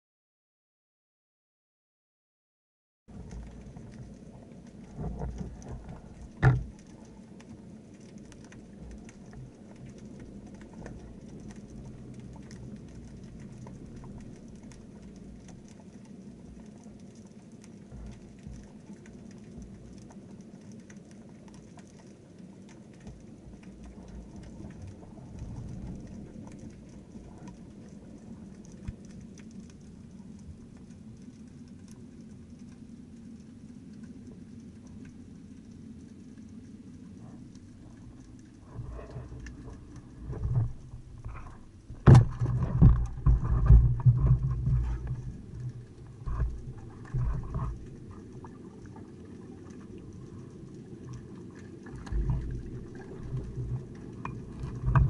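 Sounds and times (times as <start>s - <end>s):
low underwater rumble: 3.1s - 55.0s
underwater crackle of tiny ticks: 3.1s - 55.0s.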